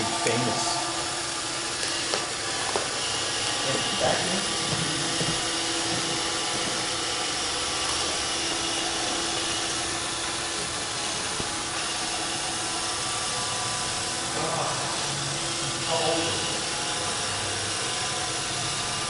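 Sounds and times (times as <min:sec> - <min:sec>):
robot vacuum motor whir: 0:00.0 - 0:19.0.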